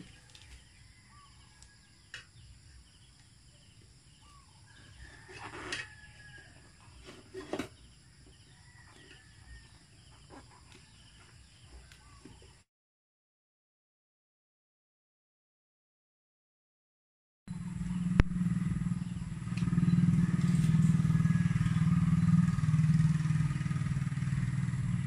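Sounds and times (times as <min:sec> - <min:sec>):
faint birds calling: 0:00.0 - 0:12.6, 0:17.5 - 0:25.0.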